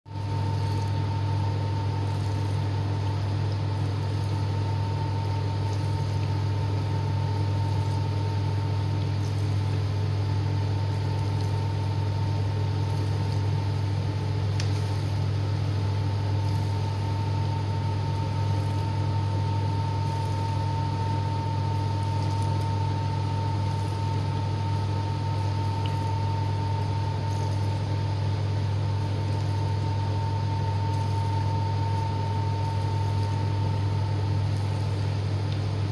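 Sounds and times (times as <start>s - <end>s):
dishwasher pump hum: 0.1s - 35.9s
thin steady whine: 0.1s - 35.9s.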